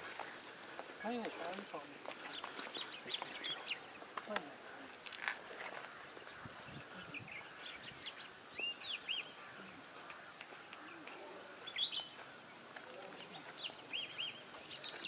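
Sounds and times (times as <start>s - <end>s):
birds chirping: 0.0s - 15.0s
steady outdoor hiss: 0.0s - 15.0s.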